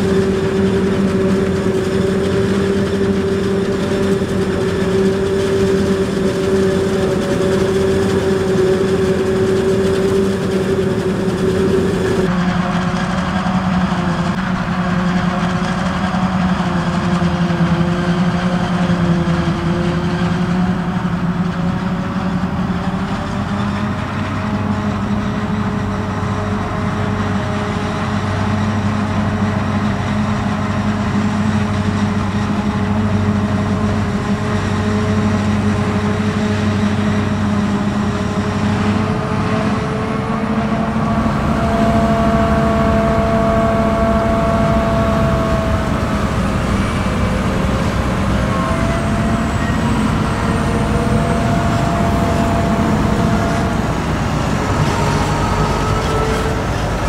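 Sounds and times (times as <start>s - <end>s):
farm machinery droning: 0.0s - 57.0s.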